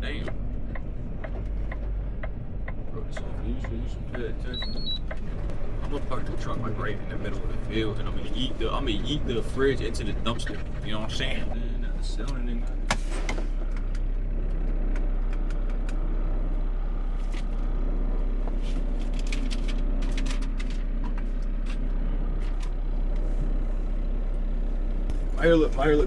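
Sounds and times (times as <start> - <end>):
road noise: 0.0 - 26.0
truck engine running: 0.0 - 26.0.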